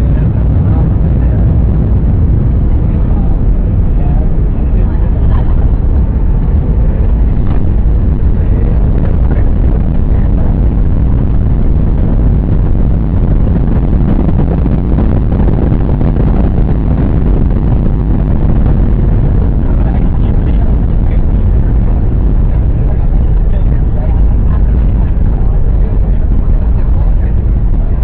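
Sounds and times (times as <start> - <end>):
airliner engines and airflow: 0.0 - 28.0.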